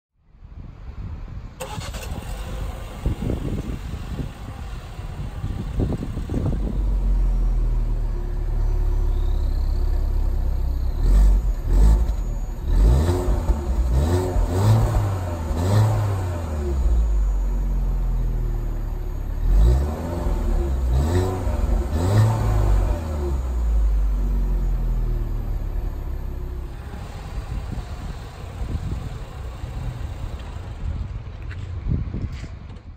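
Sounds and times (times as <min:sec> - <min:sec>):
car engine idling and revving: 0:00.5 - 0:32.9.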